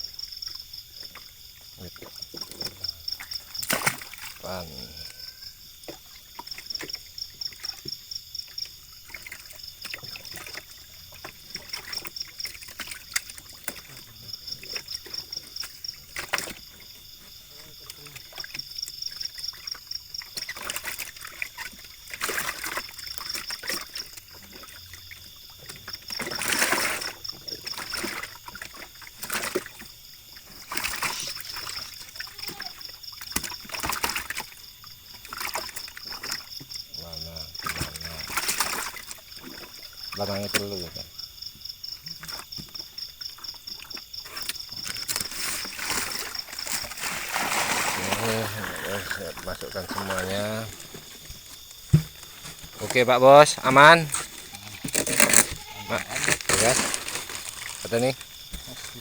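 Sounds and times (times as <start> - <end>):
water splashing: 0.0 - 59.0.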